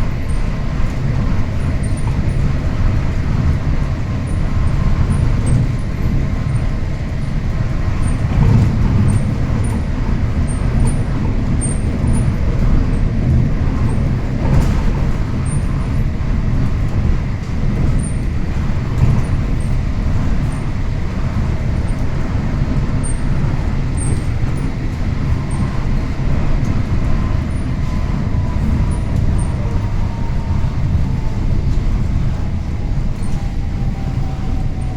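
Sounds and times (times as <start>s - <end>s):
monorail train rumbling: 0.0s - 34.9s.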